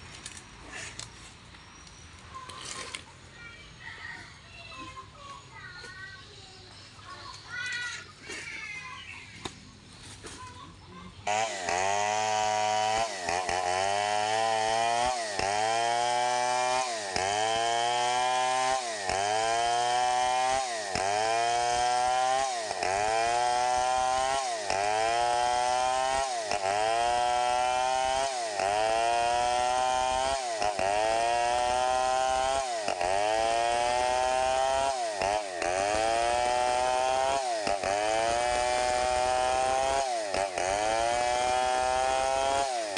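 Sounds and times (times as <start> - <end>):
chainsaw cutting log: 0.0 - 3.1, 11.2 - 42.9.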